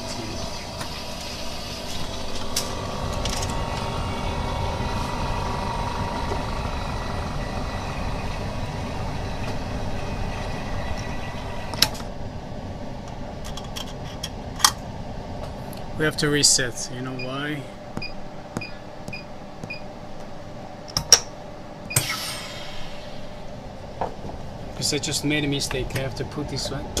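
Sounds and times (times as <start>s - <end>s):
laminator hissing and humming: 0.0s - 20.8s, 21.9s - 27.0s.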